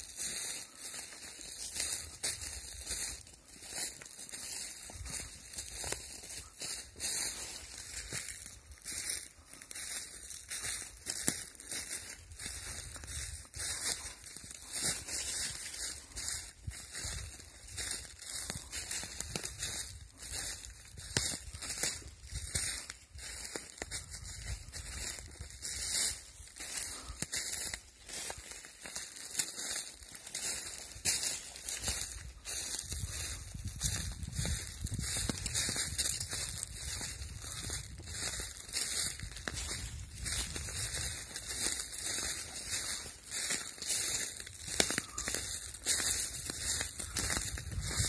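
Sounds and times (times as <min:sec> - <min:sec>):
footsteps crunching dry leaves: 0:00.0 - 0:48.0.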